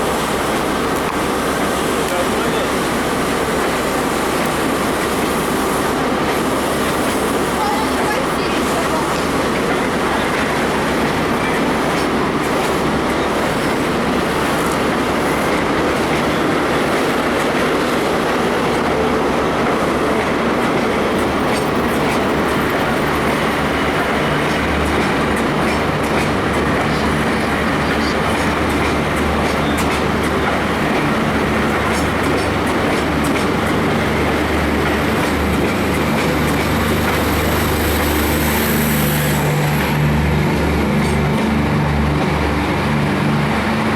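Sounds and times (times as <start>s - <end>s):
steam train running: 0.0s - 43.9s.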